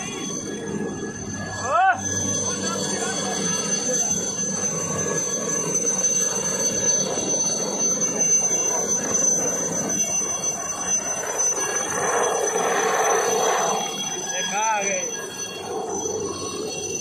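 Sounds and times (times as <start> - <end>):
high-pitched ringing tone: 0.0 - 17.0.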